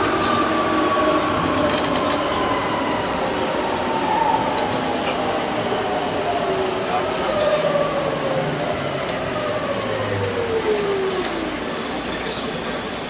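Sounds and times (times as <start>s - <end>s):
wheel and rail noise: 0.0s - 13.0s.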